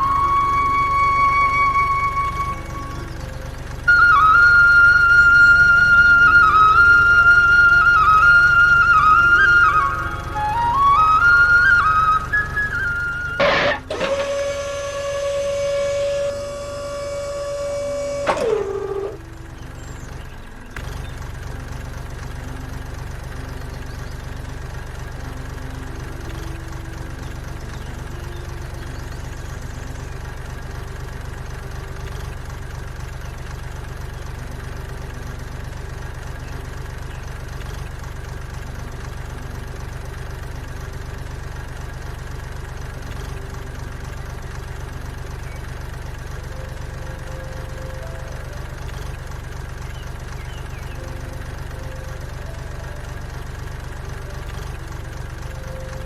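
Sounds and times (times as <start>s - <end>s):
small motor whine winding down: 0.0s - 56.0s
tractor engine idling: 0.0s - 56.0s.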